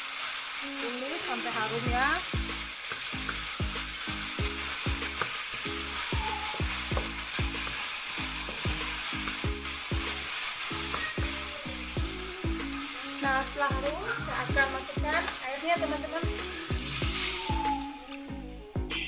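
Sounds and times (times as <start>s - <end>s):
spice paste sizzling in a wok: 0.0s - 18.9s
wooden spatula stirring in wok: 0.1s - 18.2s
background music: 1.8s - 19.0s.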